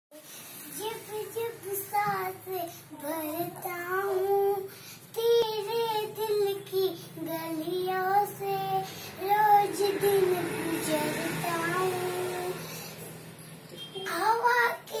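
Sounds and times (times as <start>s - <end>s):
girl singing unaccompanied: 0.2s - 13.0s, 14.0s - 15.0s.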